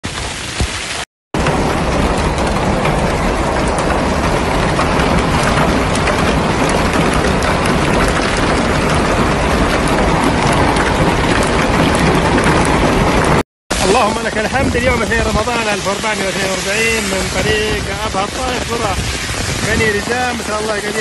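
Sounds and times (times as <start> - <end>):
hail and rain pelting down: 0.0 - 21.0.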